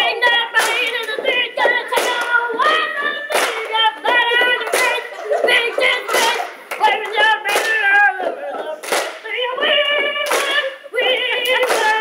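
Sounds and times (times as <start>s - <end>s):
high voice singing: 0.0s - 12.0s
sharp claps: 0.2s - 10.7s, 11.4s - 12.0s.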